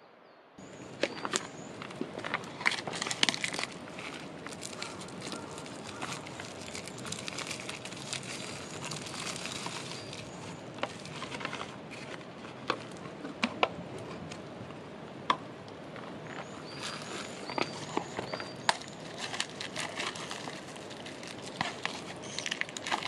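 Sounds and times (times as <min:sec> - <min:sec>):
wood fire crackling: 0:00.6 - 0:23.0.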